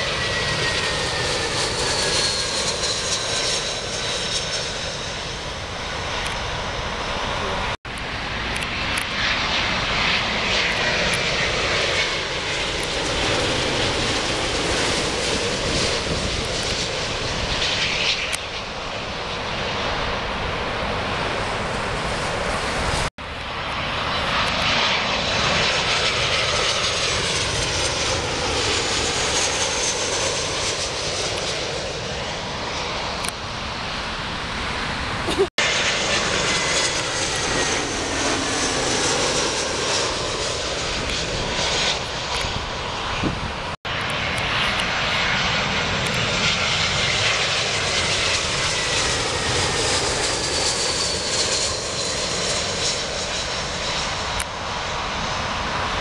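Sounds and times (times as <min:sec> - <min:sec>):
jet airliners passing overhead: 0:00.0 - 0:56.0.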